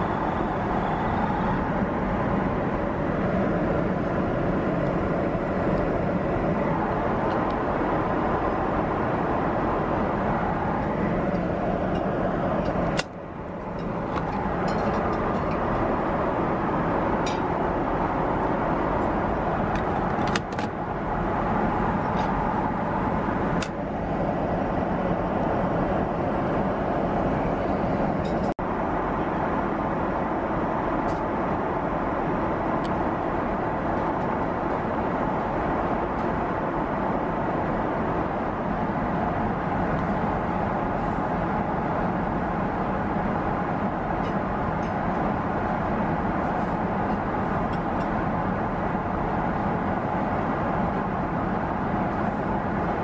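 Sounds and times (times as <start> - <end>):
airplane cabin engine rush: 0.0 - 53.0.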